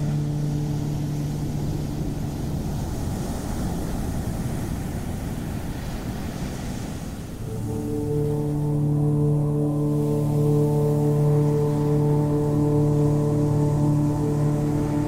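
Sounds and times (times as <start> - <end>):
sustained musical drone: 0.0 - 4.5, 7.4 - 15.0
ocean waves washing: 0.0 - 15.0.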